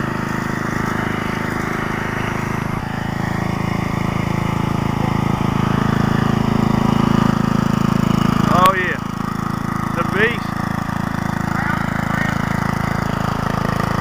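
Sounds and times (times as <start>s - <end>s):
small engine running under load: 0.0s - 14.0s.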